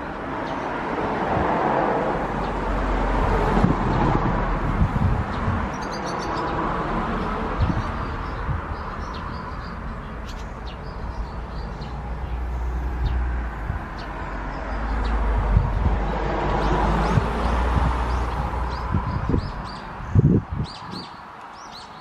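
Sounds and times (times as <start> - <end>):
small birds chirping: 0.0 - 0.8, 4.8 - 22.0
rushing outdoor background: 0.0 - 22.0.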